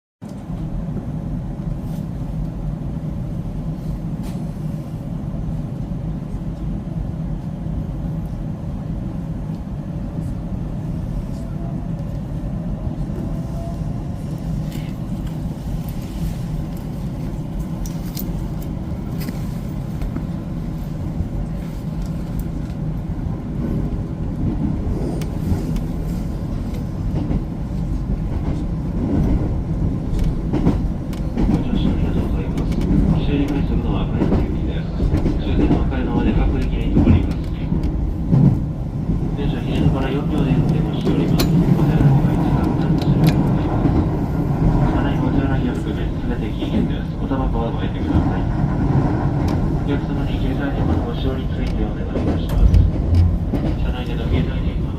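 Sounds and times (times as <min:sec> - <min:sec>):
electric train rumbling: 0:00.2 - 0:54.9.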